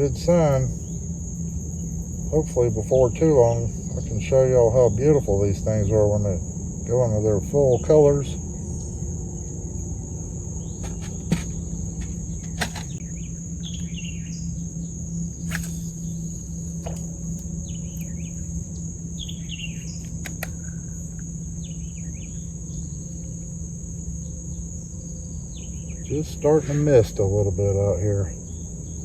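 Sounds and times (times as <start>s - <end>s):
birds chirping: 0.0s - 29.0s
crickets chirping: 0.0s - 29.0s.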